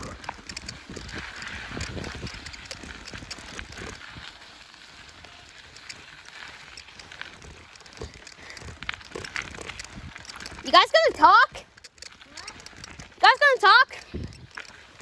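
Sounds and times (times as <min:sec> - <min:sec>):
bicycle tyres crunching on rocks: 0:00.0 - 0:15.0
bike clicks and rattles: 0:00.0 - 0:15.0.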